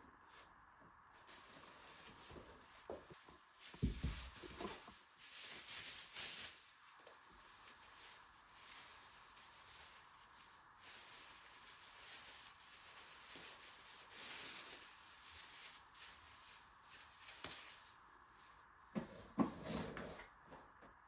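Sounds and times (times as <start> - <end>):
rustling and handling noises: 0.3 - 20.9.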